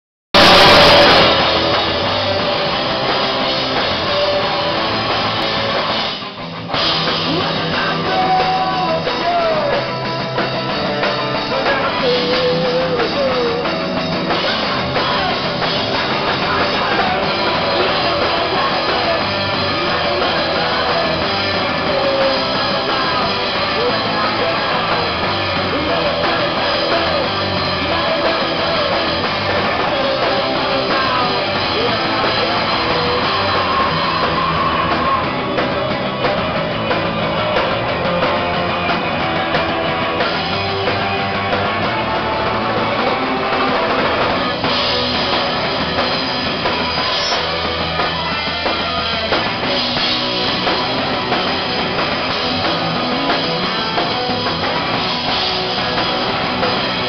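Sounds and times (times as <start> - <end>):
drum kit: 0.3 - 57.0
electric guitar: 0.4 - 57.0
live rock band playing: 0.4 - 57.0.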